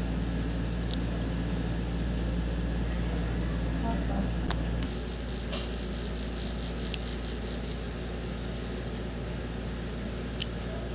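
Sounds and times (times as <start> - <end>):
low room hum: 0.0 - 10.9.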